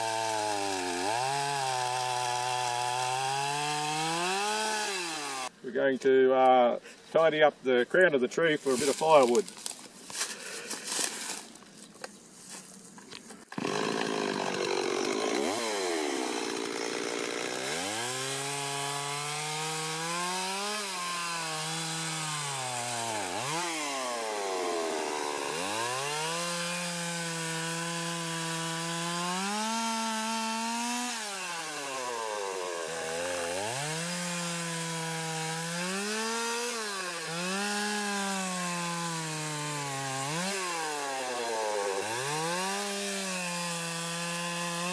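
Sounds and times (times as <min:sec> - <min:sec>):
chainsaw engine revving: 0:00.0 - 0:05.5, 0:13.5 - 0:44.9.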